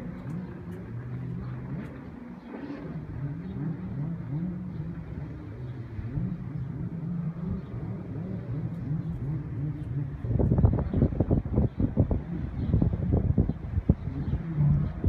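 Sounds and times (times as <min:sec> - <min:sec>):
jet ski engines revving: 0:00.0 - 0:15.0.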